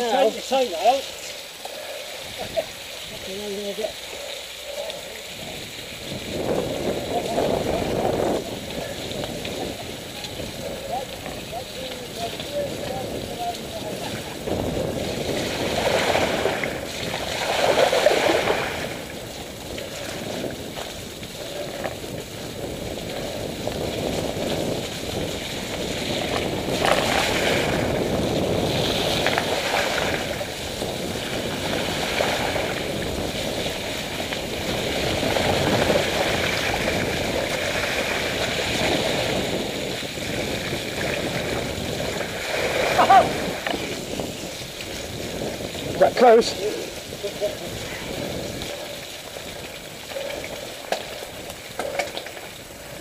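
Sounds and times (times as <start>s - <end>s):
bike tyres splashing through puddles: 0.0s - 53.0s.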